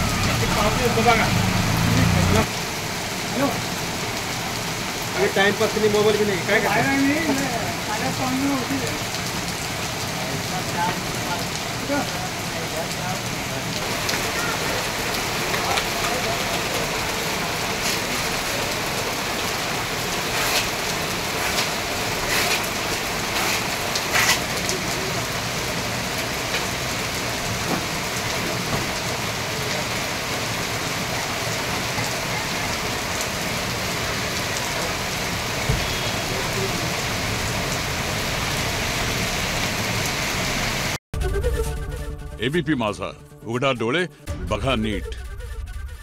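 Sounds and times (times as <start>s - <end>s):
heavy rain on a street: 0.0s - 41.0s.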